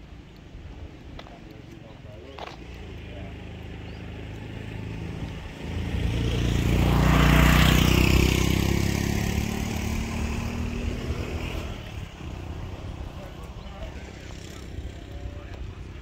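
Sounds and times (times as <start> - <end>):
vehicle passing by: 2.6 - 16.0.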